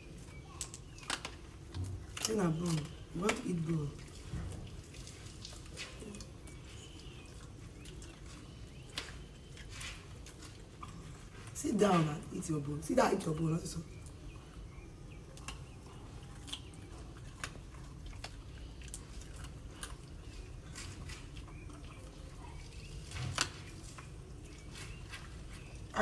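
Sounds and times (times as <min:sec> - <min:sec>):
dog gnawing on a bone: 0:00.0 - 0:12.0, 0:13.9 - 0:26.0
low steady hum: 0:00.0 - 0:26.0.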